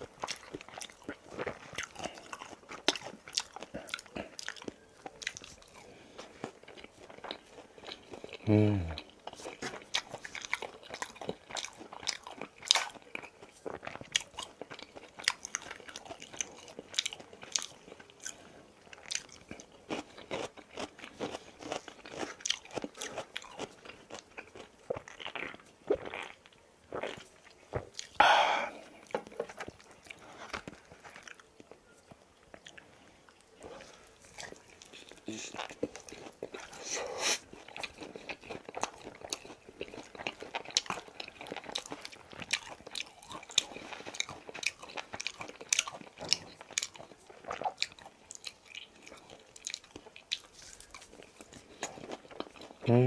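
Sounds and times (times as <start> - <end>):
crunching and chewing fried chicken: 0.0 - 53.0.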